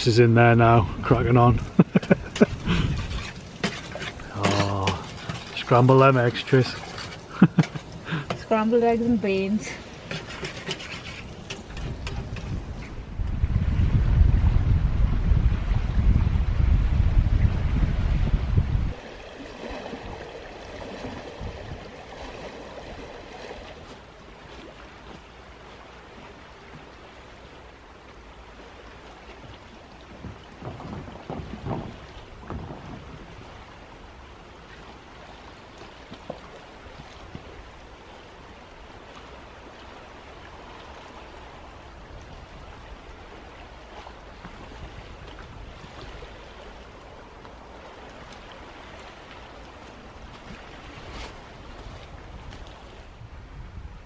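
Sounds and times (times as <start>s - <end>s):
small waves lapping on stony shore: 0.0s - 13.2s, 18.9s - 53.6s
wind: 0.0s - 54.0s.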